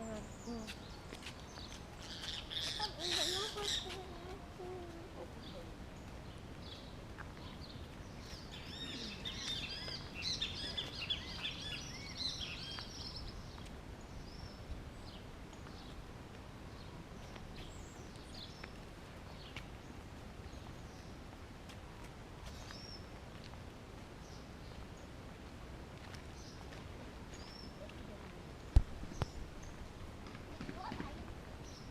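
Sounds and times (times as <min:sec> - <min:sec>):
outdoor background noise: 0:00.0 - 0:31.9
songbirds chirping: 0:00.0 - 0:31.9.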